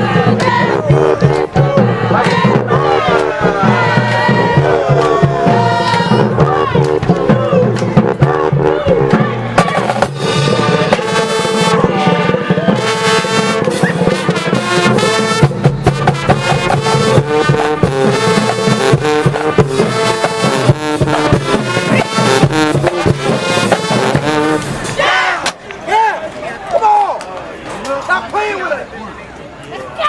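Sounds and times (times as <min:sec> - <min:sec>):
marching band playing: 0:00.0 - 0:26.1.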